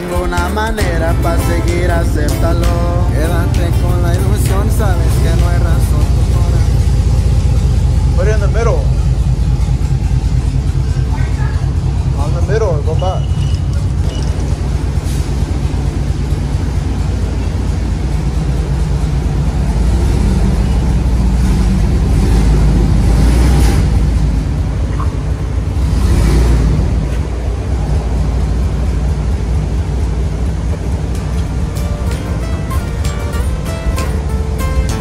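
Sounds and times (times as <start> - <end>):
truck engine and exhaust rumbling: 0.0 - 35.0.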